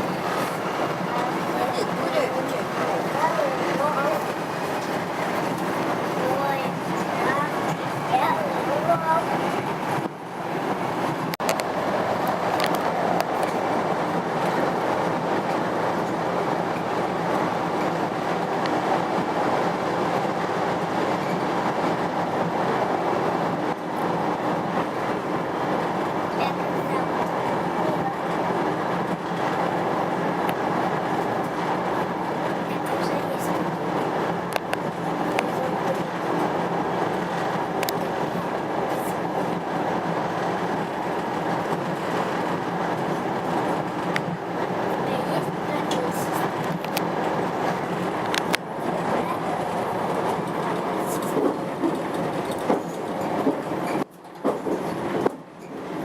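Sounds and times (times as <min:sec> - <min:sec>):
train running noise inside carriage: 0:00.0 - 0:56.0.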